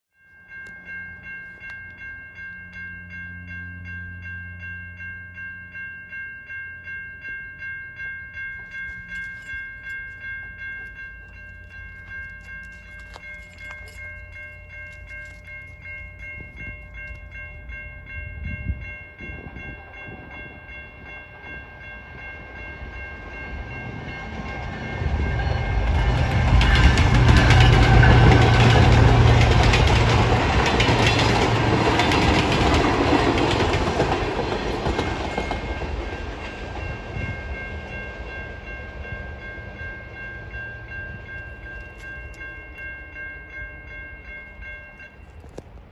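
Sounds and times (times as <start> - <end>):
railroad crossing bell ringing: 0.2 - 45.9
diesel train passing: 6.9 - 45.9.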